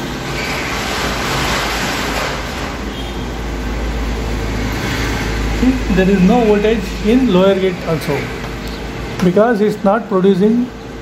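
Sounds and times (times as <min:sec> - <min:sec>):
fan rushing noise with hum: 0:00.0 - 0:11.0.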